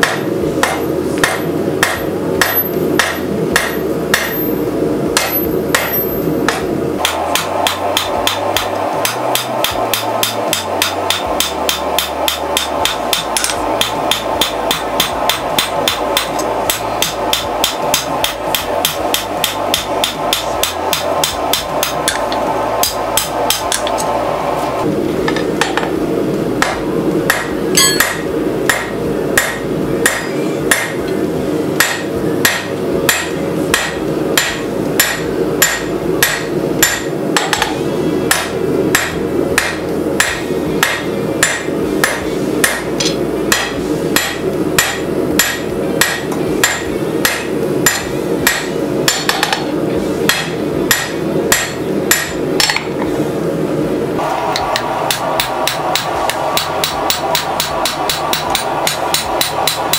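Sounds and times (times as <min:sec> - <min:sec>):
hammer striking metal on anvil: 0:00.0 - 0:04.6, 0:05.2 - 0:24.1, 0:25.3 - 0:25.9, 0:26.6 - 0:31.1, 0:31.8 - 0:49.7, 0:50.3 - 0:53.0, 0:54.5 - 0:59.9.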